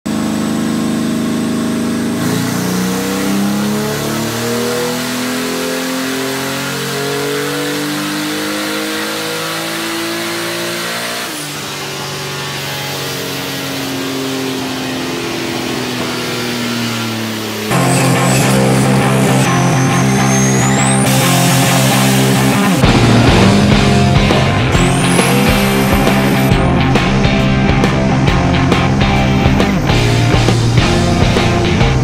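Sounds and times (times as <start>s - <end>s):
car engine under load: 0.1s - 32.0s.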